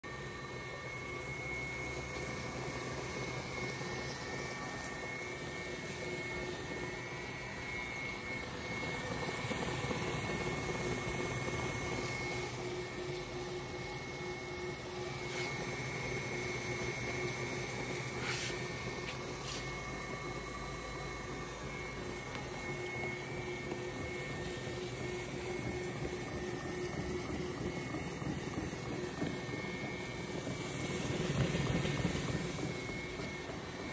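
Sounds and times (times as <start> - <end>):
machine motor hum and whine: 0.1 - 33.9.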